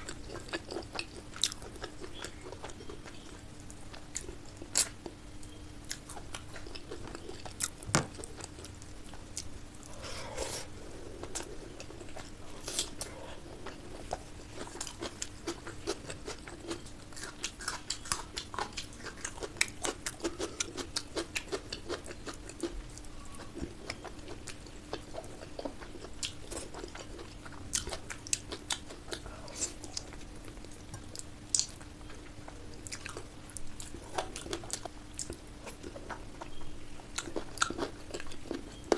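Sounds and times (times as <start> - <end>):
chewing and wet mouth sounds: 0.0 - 38.9
faint hum: 0.0 - 38.9.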